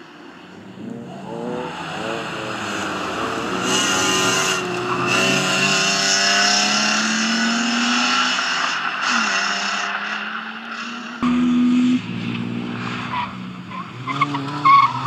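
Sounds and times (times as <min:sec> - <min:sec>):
race car engine revving: 0:00.5 - 0:15.0.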